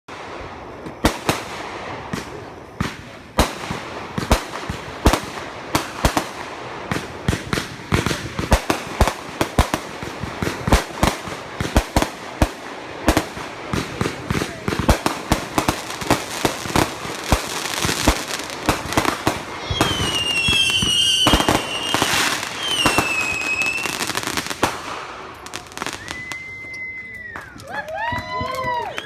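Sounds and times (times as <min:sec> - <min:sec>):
firework crackling hiss: 0:00.1 - 0:27.0
firework bangs: 0:00.1 - 0:29.0.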